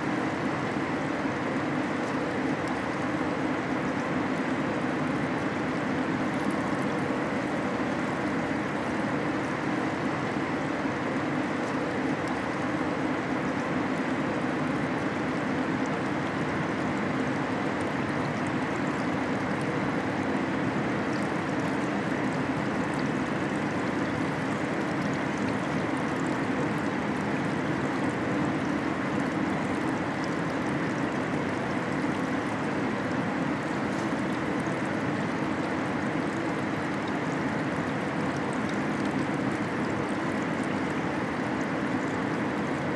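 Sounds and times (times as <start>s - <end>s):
liquid flowing and trickling: 0.0s - 42.9s.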